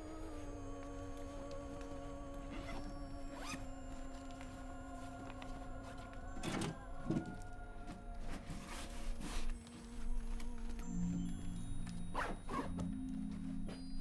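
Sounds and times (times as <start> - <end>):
soft music of held tones: 0.0 - 14.0.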